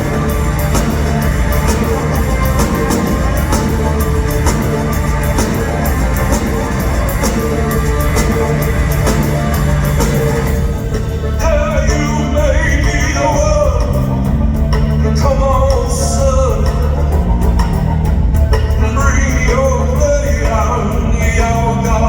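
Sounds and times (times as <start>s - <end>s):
live rock band playing: 0.0s - 22.0s
rock vocals: 0.0s - 22.0s.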